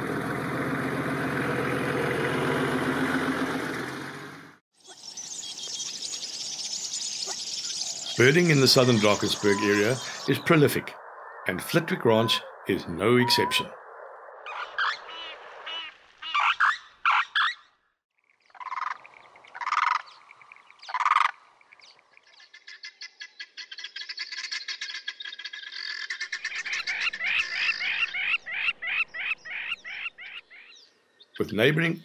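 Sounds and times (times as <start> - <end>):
wild birds calling: 4.8 - 17.8, 18.4 - 31.8.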